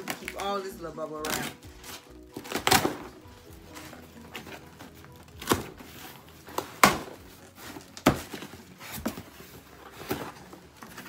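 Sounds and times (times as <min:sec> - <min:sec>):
items knocking and rustling: 0:00.0 - 0:11.0.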